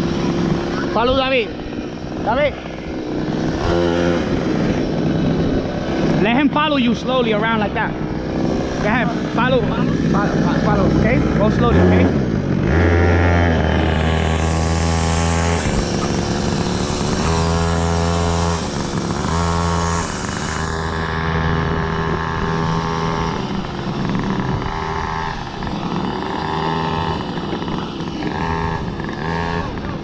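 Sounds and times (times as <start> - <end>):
go-kart engine revving: 0.0 - 30.0.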